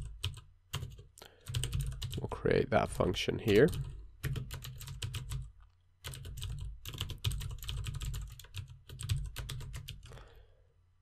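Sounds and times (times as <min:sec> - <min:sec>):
fast keyboard typing: 0:00.0 - 0:02.2, 0:03.5 - 0:10.2.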